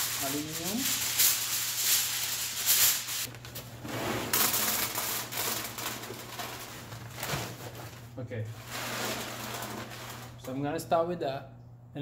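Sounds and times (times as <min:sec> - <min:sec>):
aluminium foil crinkling: 0:00.0 - 0:03.6, 0:04.3 - 0:10.5.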